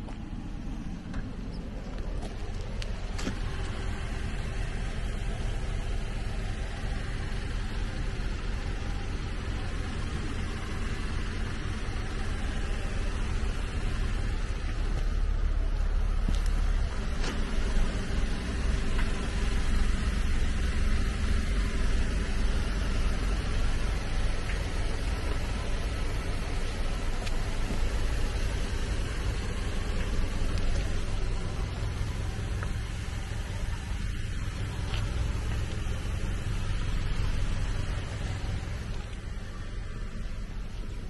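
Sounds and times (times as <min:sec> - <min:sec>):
van engine idling: 0:00.0 - 0:41.0.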